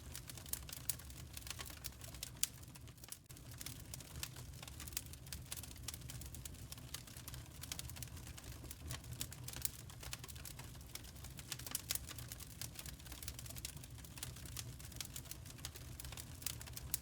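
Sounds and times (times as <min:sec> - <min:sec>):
low rumble of fire: 0:00.0 - 0:17.0
wood fire popping and snapping: 0:00.0 - 0:17.0.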